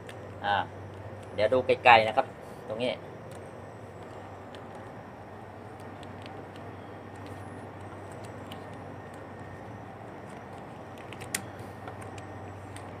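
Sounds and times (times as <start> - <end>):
constant hum: 0.0 - 13.0
low background rumble: 0.0 - 13.0.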